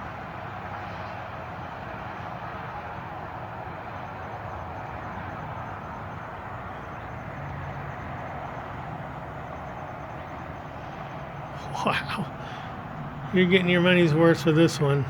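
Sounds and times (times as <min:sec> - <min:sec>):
distant highway traffic: 0:00.0 - 0:15.0.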